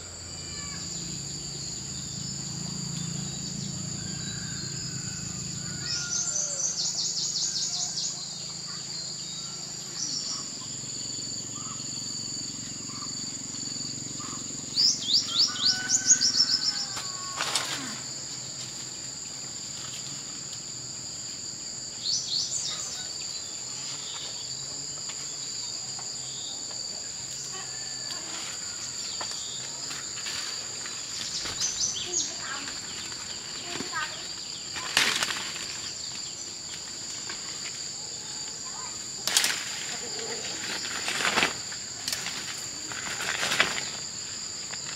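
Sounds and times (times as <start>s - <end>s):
insects droning: 0.0s - 44.9s
songbird singing: 0.0s - 44.9s.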